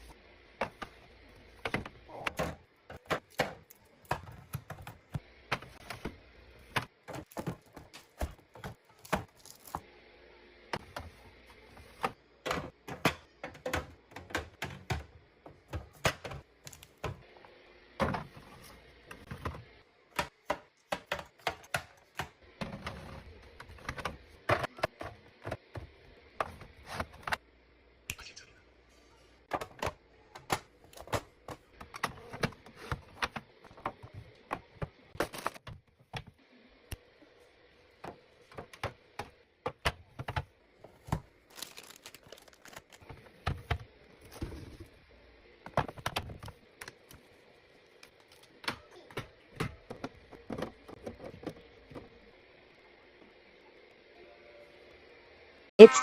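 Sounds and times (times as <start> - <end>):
food containers set on shelves: 0.0 - 54.0.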